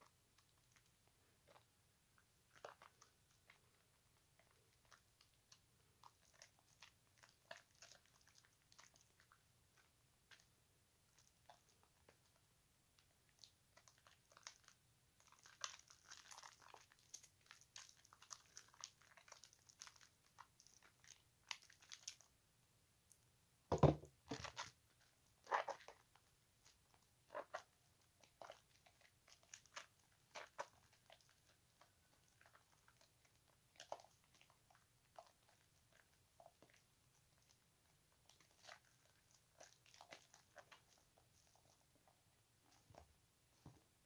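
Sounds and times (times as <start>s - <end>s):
hands squishing soap lather: 0.1s - 12.3s, 13.0s - 22.4s, 24.3s - 43.1s.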